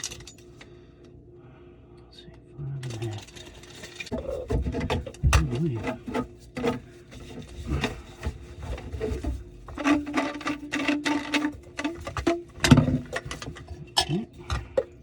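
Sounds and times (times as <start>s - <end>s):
plumbing parts clicking and knocking: 0.0s - 0.7s, 2.8s - 15.0s.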